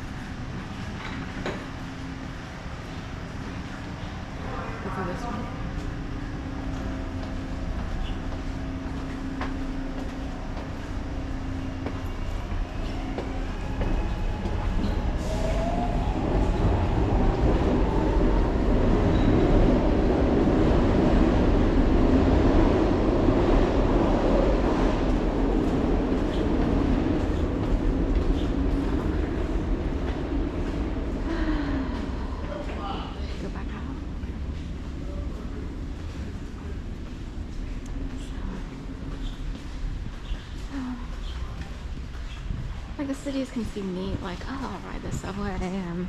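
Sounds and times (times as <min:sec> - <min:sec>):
rising whine of train: 0:00.0 - 0:46.0
subway train rumble: 0:00.0 - 0:46.0.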